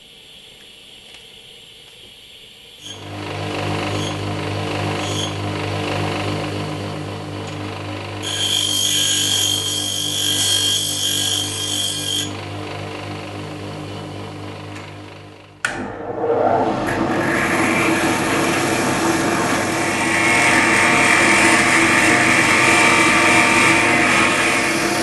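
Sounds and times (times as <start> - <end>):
power tool humming: 2.8 - 15.8, 16.9 - 25.0.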